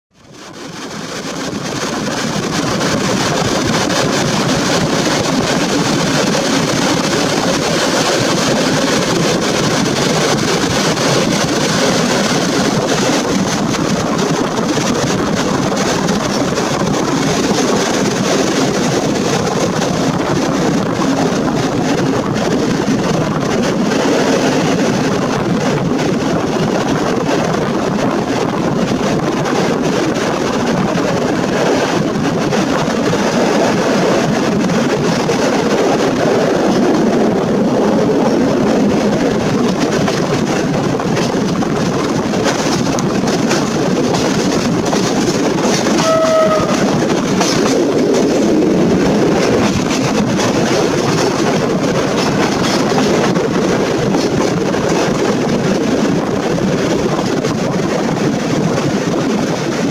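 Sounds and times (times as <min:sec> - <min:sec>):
train wheels rolling on rails: 0:00.1 - 0:59.9
wind on microphone: 0:00.2 - 0:59.9.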